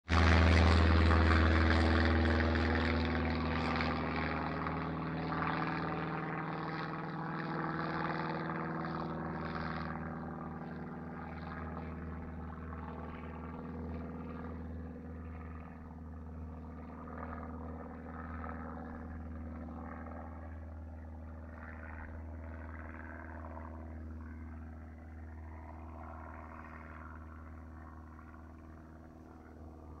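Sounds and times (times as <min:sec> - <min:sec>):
propeller plane engine: 0:00.0 - 0:30.0.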